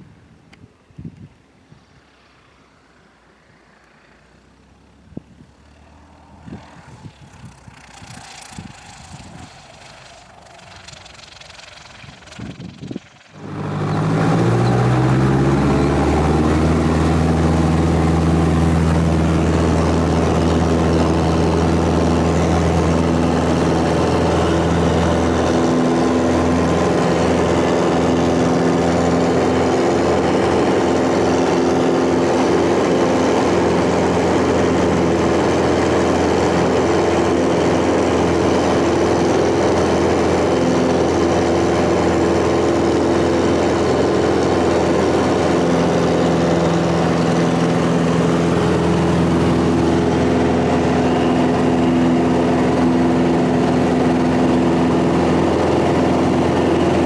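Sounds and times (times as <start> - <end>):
engine starting and running: 3.4 - 57.0.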